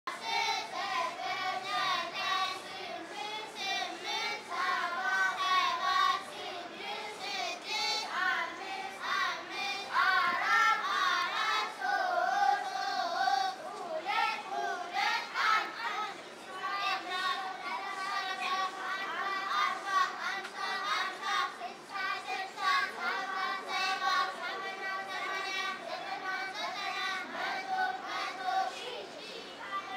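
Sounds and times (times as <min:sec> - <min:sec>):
children singing in unison: 0:00.1 - 0:29.9.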